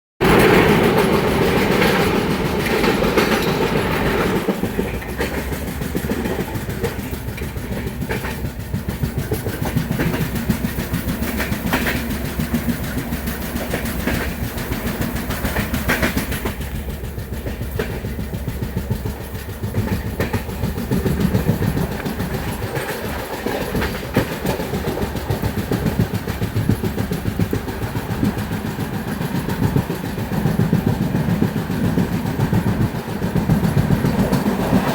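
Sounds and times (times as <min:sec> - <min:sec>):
clacks over rail joints: 0:00.2 - 0:34.9
train wheels rumbling on rails: 0:00.2 - 0:34.9.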